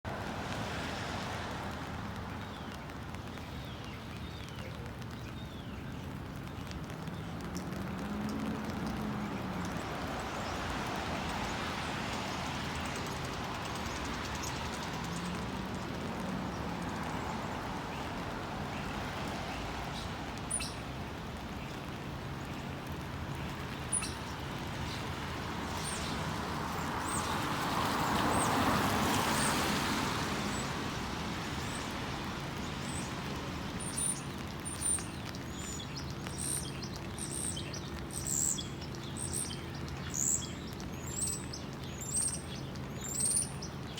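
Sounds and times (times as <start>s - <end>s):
city traffic noise: 0.0s - 43.9s
small birds chirping: 2.1s - 43.9s.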